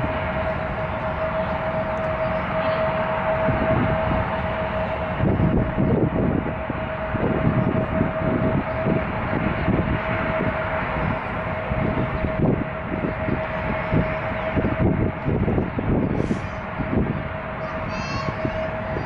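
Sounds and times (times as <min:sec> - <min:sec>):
jet engines whining: 0:00.0 - 0:19.0
wind buffeting microphone: 0:00.0 - 0:19.0.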